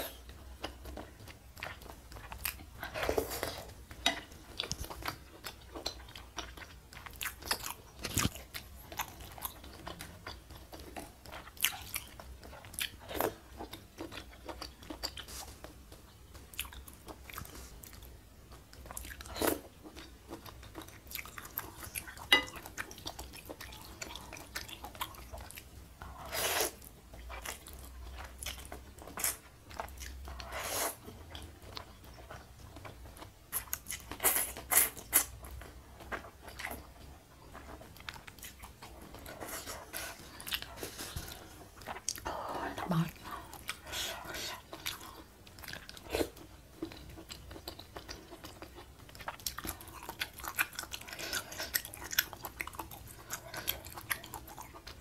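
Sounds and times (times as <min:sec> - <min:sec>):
wet chewing and smacking: 0:00.2 - 0:55.0.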